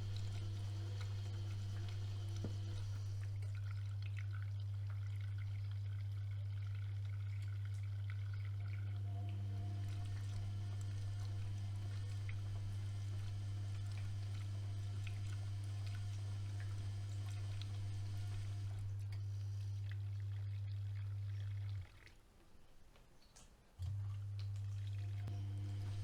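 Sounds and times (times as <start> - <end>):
washing machine hum: 0.0 - 22.2, 23.7 - 26.0
water trickling: 0.0 - 22.2.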